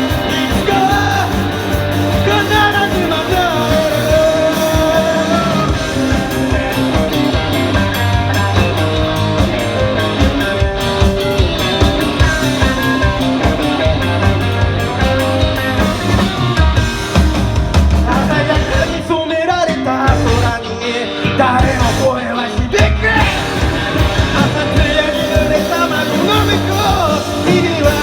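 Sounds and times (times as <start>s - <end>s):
guitar: 0.0s - 28.0s
rock band playing: 0.0s - 28.0s.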